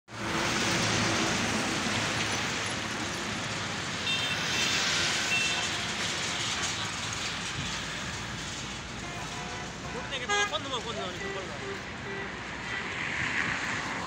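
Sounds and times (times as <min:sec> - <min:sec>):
road traffic noise: 0:00.1 - 0:14.0.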